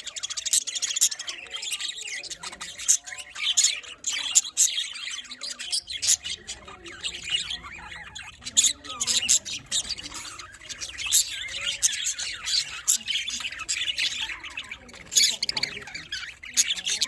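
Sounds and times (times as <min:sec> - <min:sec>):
budgerigars chirping and chattering: 0:00.0 - 0:17.0.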